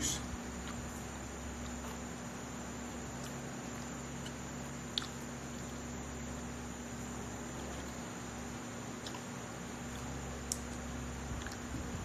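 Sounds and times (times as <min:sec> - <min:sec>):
faint low hum: 0:00.0 - 0:12.0
steady hiss: 0:00.0 - 0:12.0.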